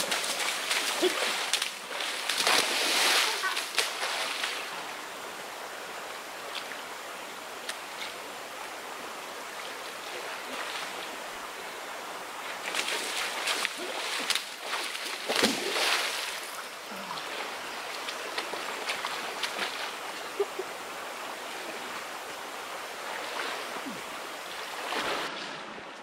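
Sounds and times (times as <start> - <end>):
forest stream running: 0.0 - 25.5.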